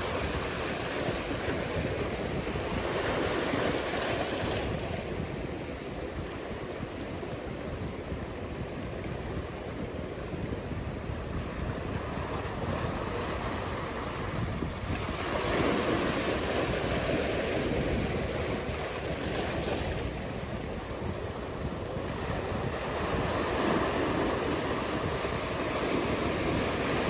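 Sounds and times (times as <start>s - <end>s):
ocean surf washing: 0.0s - 27.0s
wind on microphone: 0.0s - 27.0s.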